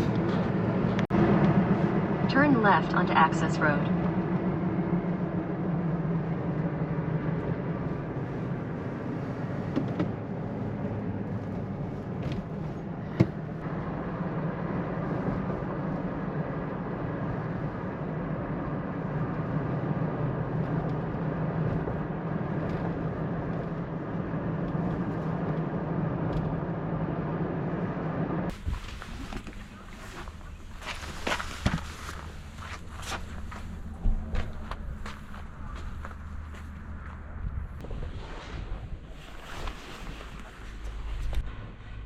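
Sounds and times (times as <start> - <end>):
pickup truck driving: 4.0 - 37.8.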